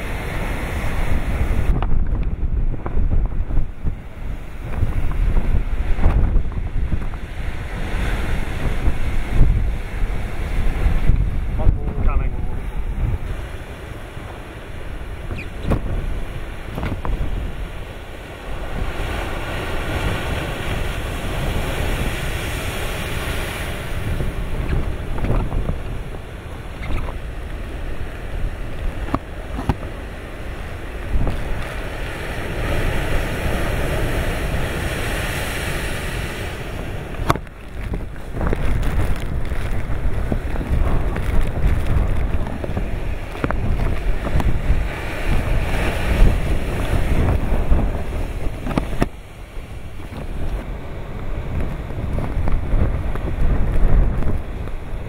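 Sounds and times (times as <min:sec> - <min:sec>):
waves breaking against rocks: 0:00.0 - 0:55.0
wind buffeting microphone: 0:00.0 - 0:55.0.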